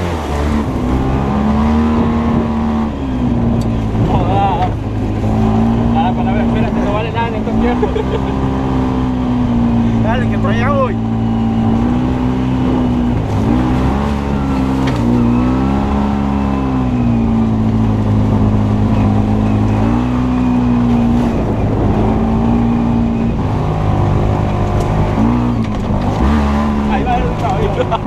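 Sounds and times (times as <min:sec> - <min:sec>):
vehicle engine revving under load: 0:00.0 - 0:28.0.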